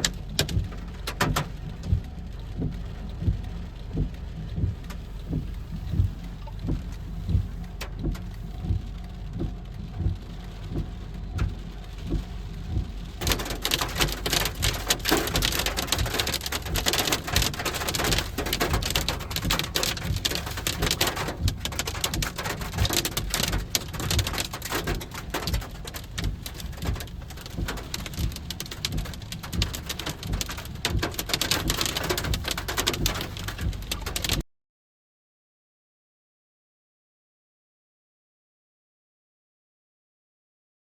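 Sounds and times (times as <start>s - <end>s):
low rumble: 0.0s - 34.4s
rain pattering: 0.0s - 34.4s
soft regular thuds: 0.0s - 34.4s.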